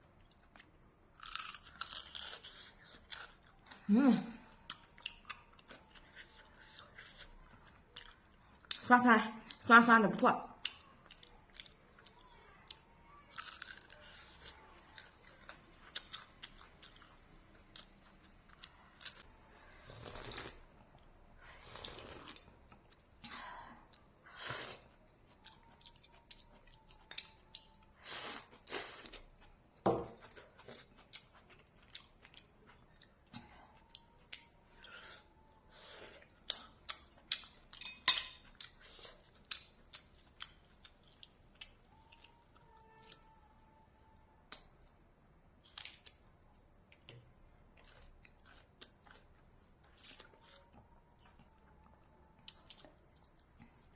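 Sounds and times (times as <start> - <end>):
person chewing: 0.2 - 3.8, 4.6 - 8.8, 10.6 - 20.7, 21.6 - 23.2, 23.9 - 43.4, 45.6 - 53.9.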